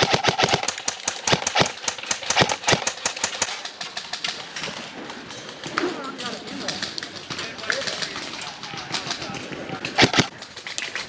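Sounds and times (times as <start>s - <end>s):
airsoft guns firing: 0.0s - 4.6s, 6.5s - 11.0s.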